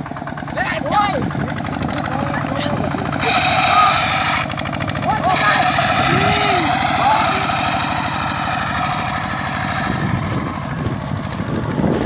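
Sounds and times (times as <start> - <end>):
small tractor engine chugging: 0.0 - 12.0.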